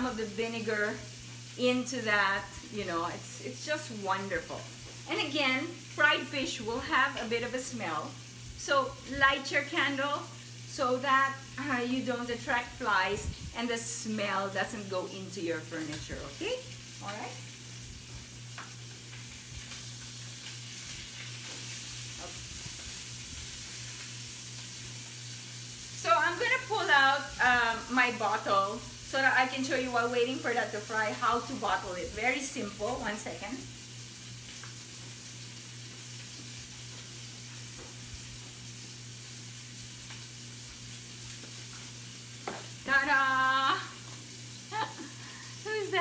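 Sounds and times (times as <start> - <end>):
fish sizzling in a pan: 0.0 - 46.0.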